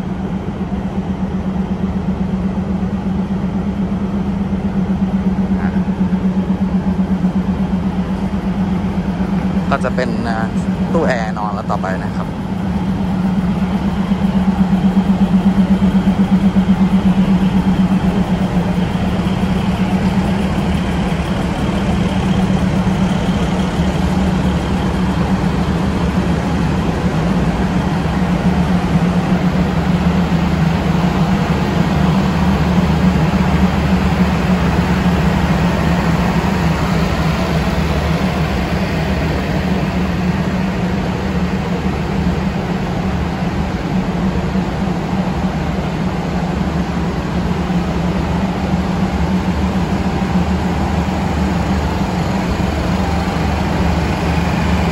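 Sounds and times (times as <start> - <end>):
diesel engines droning: 0.0 - 54.9.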